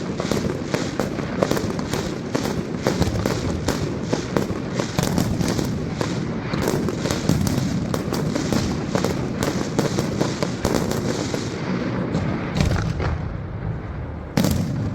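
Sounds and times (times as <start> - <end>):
fireworks bangs and crackling: 0.0 - 14.9.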